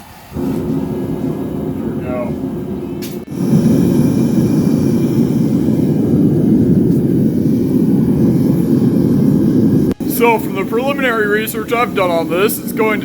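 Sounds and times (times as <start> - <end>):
furnace fire rushing: 0.0 - 13.0.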